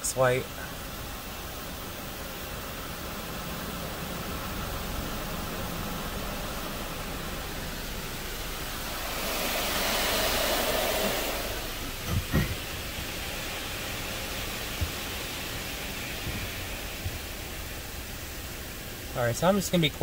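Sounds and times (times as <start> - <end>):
car wash spraying car: 0.0 - 20.0.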